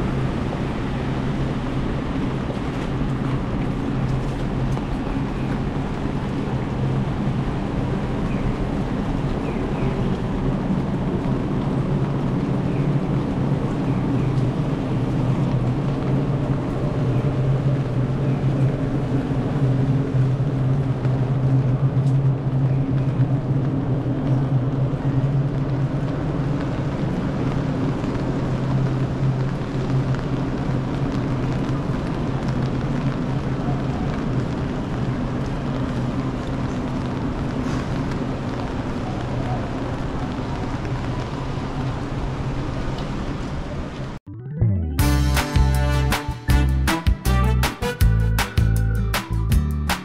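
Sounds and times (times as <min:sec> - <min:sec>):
rain: 0:00.0 - 0:44.2
low city rumble: 0:00.0 - 0:50.0.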